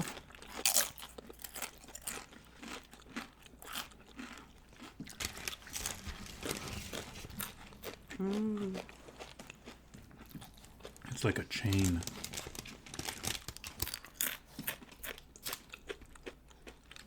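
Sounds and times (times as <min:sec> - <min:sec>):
crunchy chewing of chips: 0:00.0 - 0:17.0.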